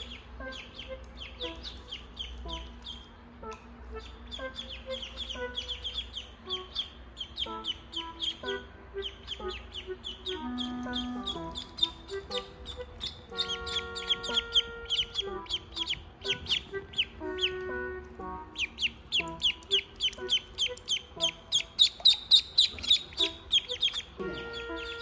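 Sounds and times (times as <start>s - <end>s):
background music with held notes: 0.0s - 25.0s
ducklings peeping: 0.0s - 25.0s.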